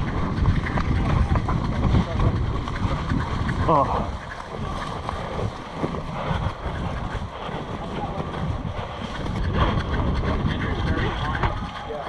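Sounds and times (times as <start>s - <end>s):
faint voices: 0.0s - 12.0s
wind buffeting microphone: 0.0s - 12.0s.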